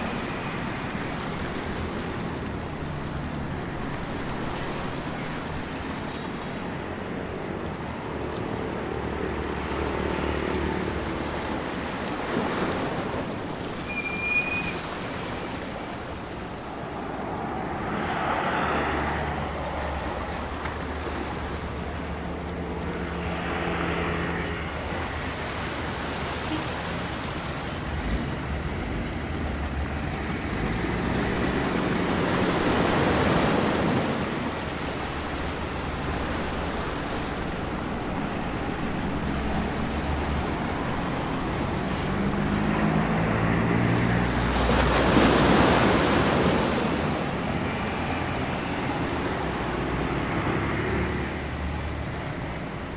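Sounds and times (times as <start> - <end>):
street traffic hum: 0.0 - 52.9
waves washing over rocks: 0.0 - 52.9.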